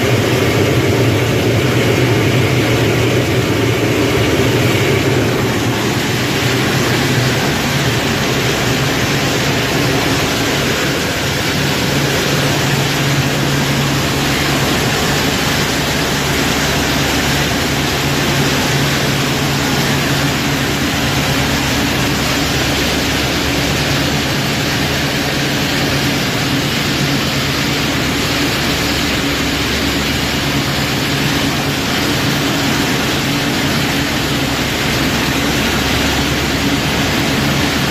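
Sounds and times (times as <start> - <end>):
loud machine hum: 0.0 - 37.9.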